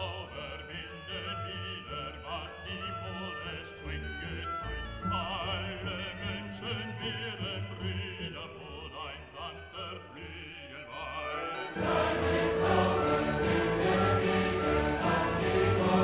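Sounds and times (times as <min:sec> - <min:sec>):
operatic voice singing with orchestra: 0:00.0 - 0:16.0.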